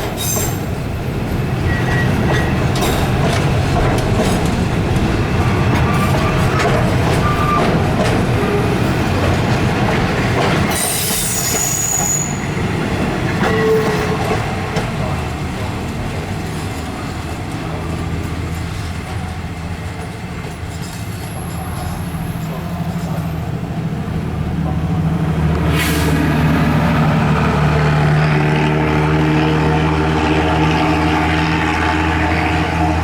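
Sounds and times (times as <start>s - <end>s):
diesel locomotive engine droning: 0.0s - 33.0s.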